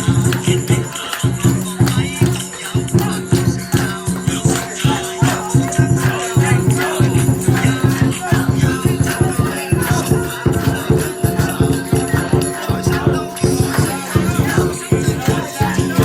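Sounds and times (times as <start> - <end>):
ritual music with rattling percussion: 0.0 - 16.0
voices wavering: 0.0 - 16.0.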